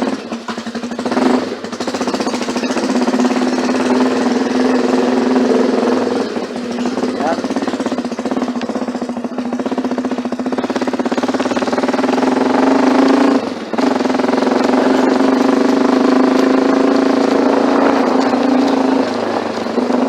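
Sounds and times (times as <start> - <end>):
engine exhaust rumble: 0.0 - 20.0.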